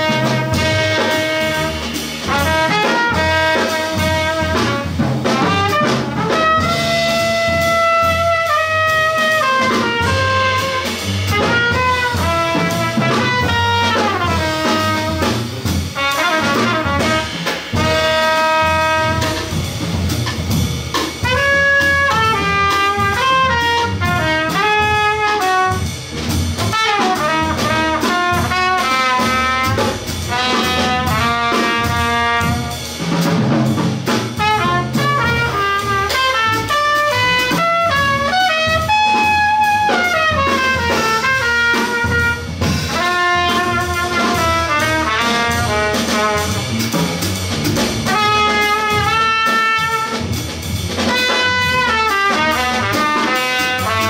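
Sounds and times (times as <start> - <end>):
trumpet playing: 0.0 - 19.8, 21.2 - 33.1, 34.0 - 54.0
drum cymbals: 0.0 - 54.0
upright bass: 0.0 - 54.0.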